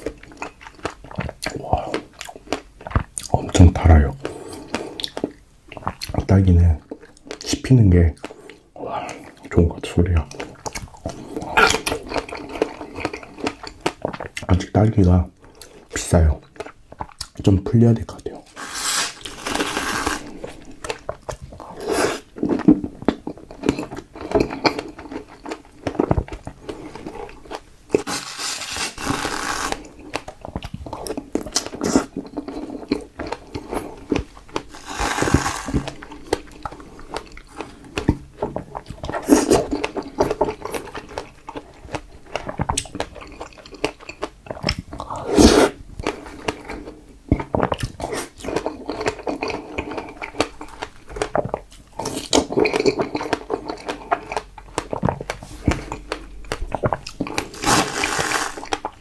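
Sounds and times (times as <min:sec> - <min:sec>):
biting and chewing strawberries: 0:00.0 - 0:14.7, 0:18.2 - 0:59.0.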